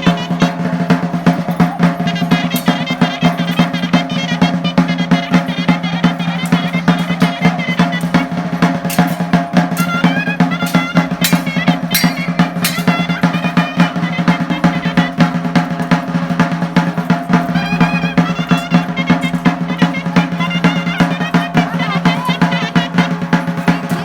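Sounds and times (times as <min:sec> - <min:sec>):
fast drumming with rolls: 0:00.0 - 0:24.0
wavering high reed melody: 0:00.0 - 0:24.0.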